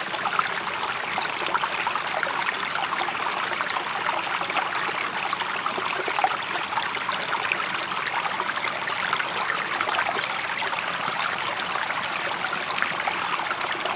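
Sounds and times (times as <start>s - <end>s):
stream babbling over stones: 0.0s - 13.9s.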